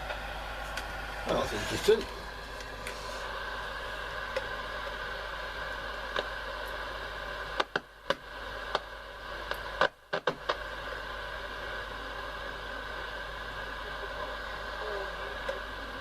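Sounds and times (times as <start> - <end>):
radio crackles: 0.0 - 16.0
radio static hiss: 0.0 - 16.0.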